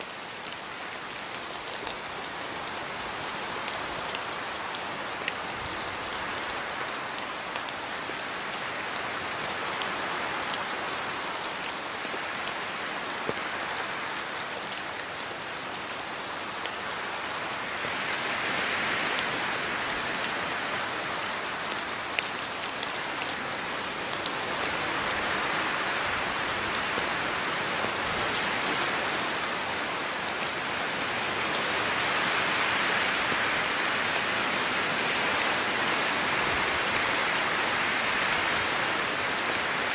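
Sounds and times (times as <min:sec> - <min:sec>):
raindrops ticking on surface: 0:00.0 - 0:39.9
steady rain: 0:00.0 - 0:39.9.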